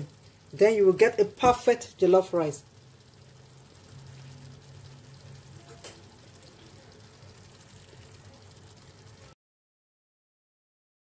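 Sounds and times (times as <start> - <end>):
pot simmering sizzle: 0.0 - 9.4.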